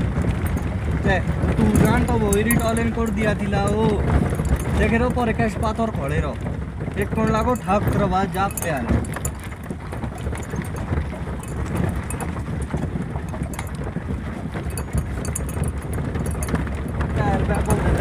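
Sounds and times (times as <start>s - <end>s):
engine and tyres rumbling: 0.0s - 18.0s
small rattles and knocks: 0.0s - 18.0s.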